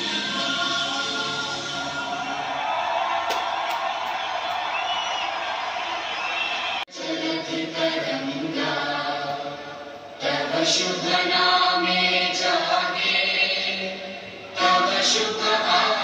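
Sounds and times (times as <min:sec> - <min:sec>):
choir singing anthem on television: 0:00.0 - 0:16.0.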